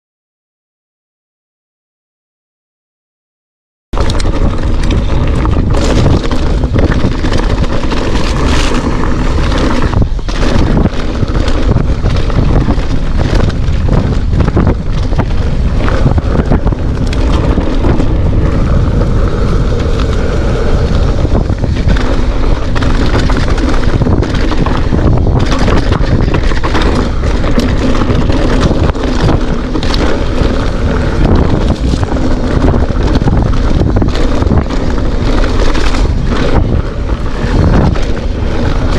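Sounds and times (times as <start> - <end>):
bike knocking and rattling: 4.0 - 38.9
tyres crunching over loose stones: 4.0 - 38.9
wind buffeting microphone: 4.0 - 38.9.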